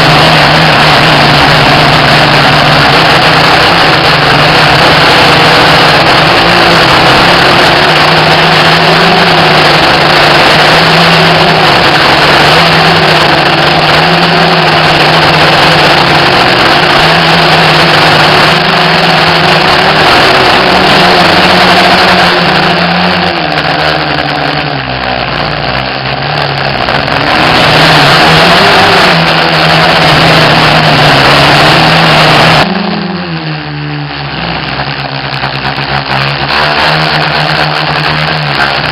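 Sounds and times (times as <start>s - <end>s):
quadcopter motors buzzing: 0.0s - 38.9s.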